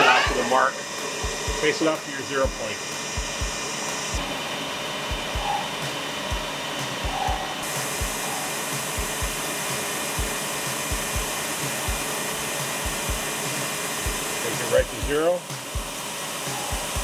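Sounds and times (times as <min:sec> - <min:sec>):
metal lathe cutting: 0:00.0 - 0:17.0.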